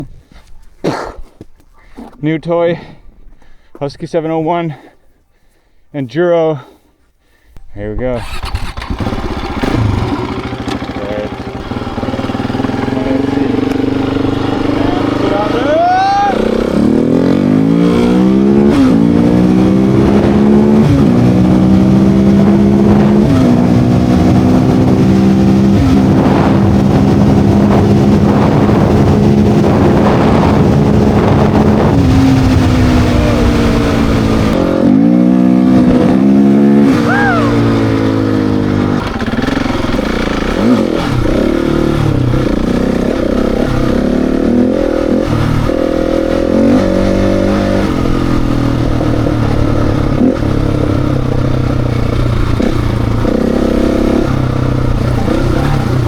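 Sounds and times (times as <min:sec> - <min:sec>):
motorcycle engine shifting gears: 0:08.2 - 0:56.0.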